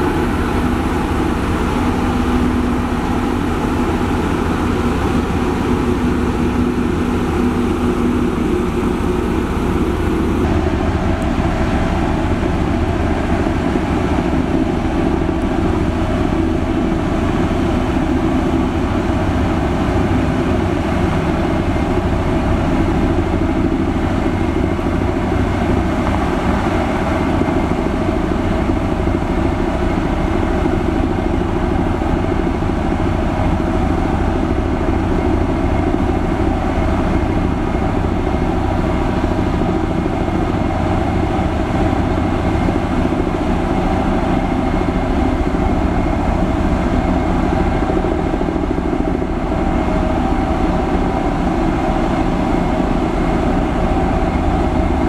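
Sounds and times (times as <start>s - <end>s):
road roller diesel engines: 0.0s - 55.0s.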